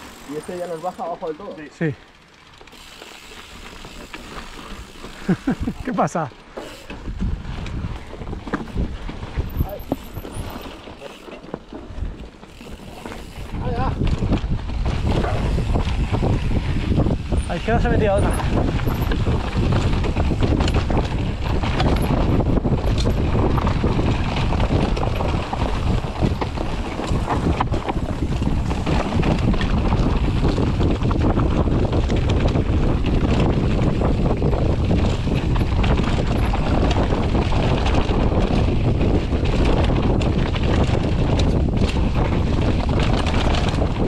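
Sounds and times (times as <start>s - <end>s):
wind buffeting microphone: 0.0s - 11.2s, 11.8s - 44.0s
mountain bike rumbling and rattling: 0.0s - 44.0s.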